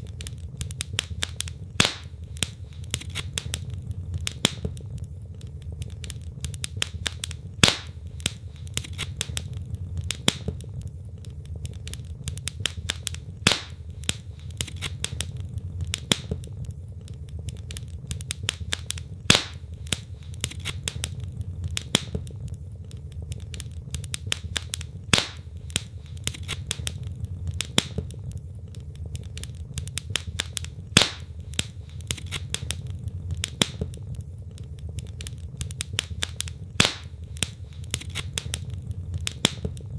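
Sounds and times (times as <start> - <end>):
low rumble of flame: 0.0 - 39.9
sharp pops of burning logs: 0.0 - 39.9
wood fire crackling: 0.0 - 39.9.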